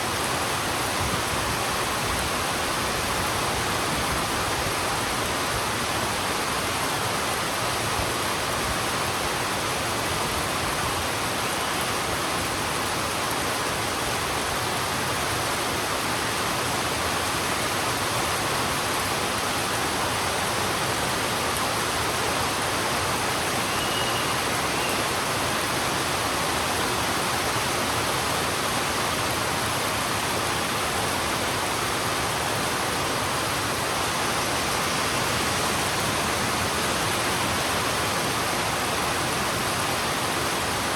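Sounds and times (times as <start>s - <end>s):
heavy rain on a road: 0.0s - 40.9s.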